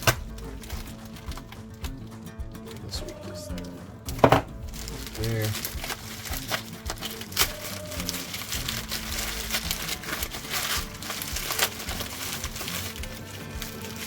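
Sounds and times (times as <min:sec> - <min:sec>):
packaging crinkling: 0:00.0 - 0:02.0, 0:02.7 - 0:14.0
soft background music: 0:00.0 - 0:14.0.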